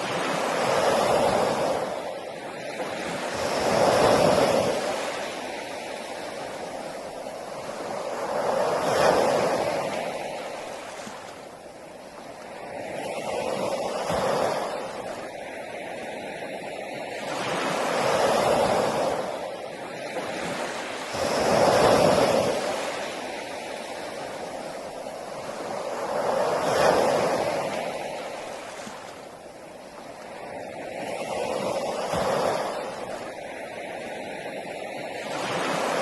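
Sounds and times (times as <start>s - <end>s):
ocean waves breaking on beach: 0.0s - 36.0s.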